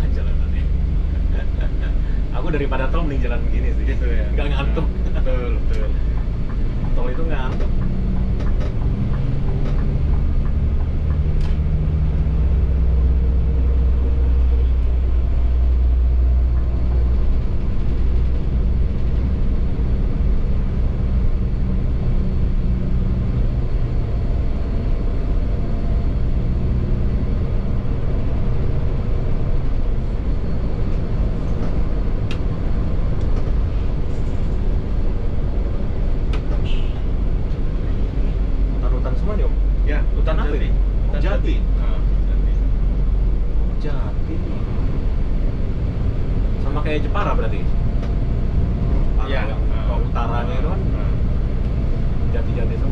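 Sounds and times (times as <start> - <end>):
bus diesel engine humming: 0.0 - 52.9
road noise: 0.0 - 52.9.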